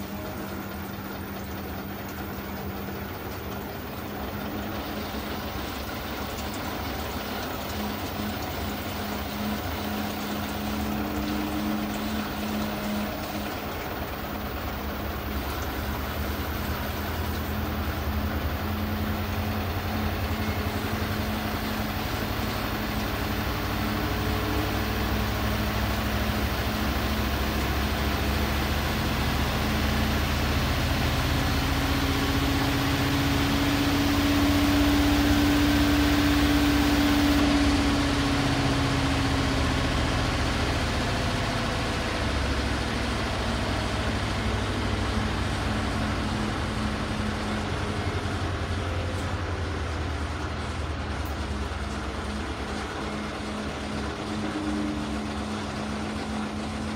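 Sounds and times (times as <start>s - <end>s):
rising motor tone: 0.0s - 56.9s
washing machine motor whirring: 0.0s - 56.9s.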